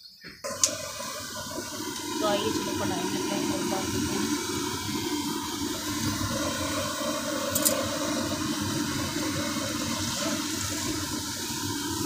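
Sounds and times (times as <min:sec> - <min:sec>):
gas burner rushing: 0:00.4 - 0:12.0.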